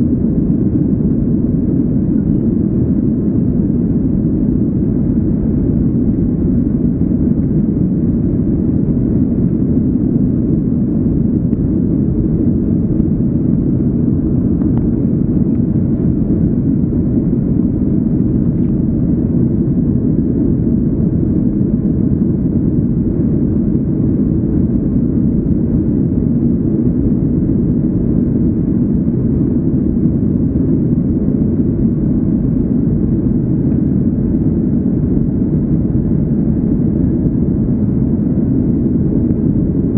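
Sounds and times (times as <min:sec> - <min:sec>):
airflow over fuselage: 0:00.0 - 0:39.9
jet engines rumbling: 0:00.0 - 0:39.9.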